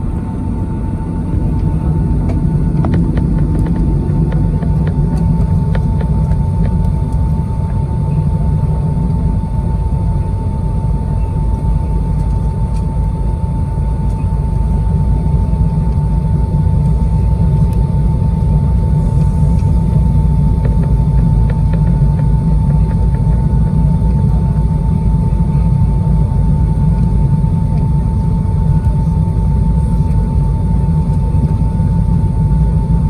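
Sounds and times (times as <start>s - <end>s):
high whine: 0.0s - 33.0s
jet engine rumble in cabin: 0.0s - 33.0s.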